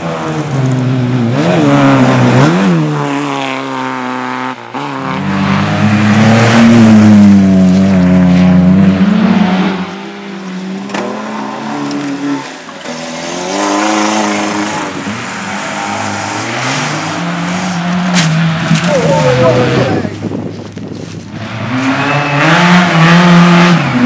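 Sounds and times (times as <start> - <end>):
rally car engine revving: 0.0 - 20.4, 21.2 - 24.0.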